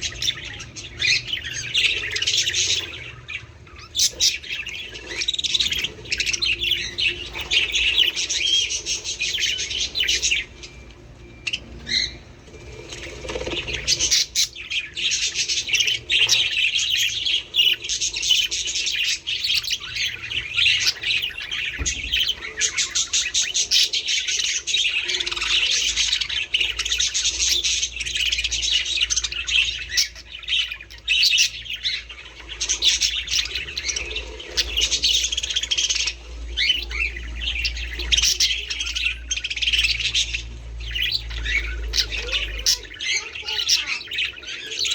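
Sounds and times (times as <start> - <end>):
budgerigars chattering and chirping: 0.0 - 44.9.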